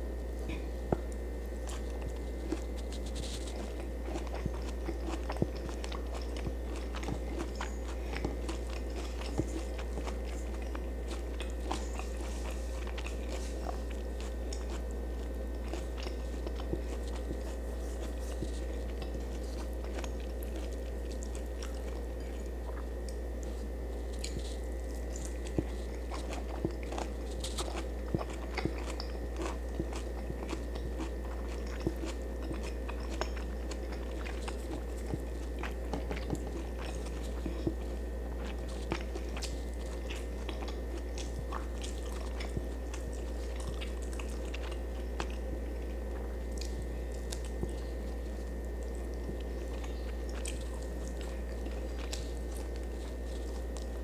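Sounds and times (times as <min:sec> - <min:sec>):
person chewing food: 0:00.0 - 0:54.0
steady low hum: 0:00.0 - 0:54.0.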